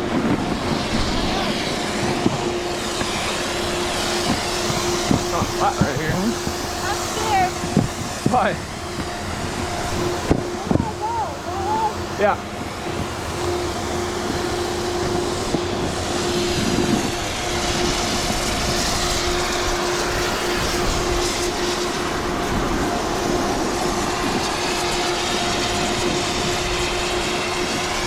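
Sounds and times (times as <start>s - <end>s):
steady hum: 0.0s - 28.0s
wind rushing over microphone: 0.0s - 28.0s.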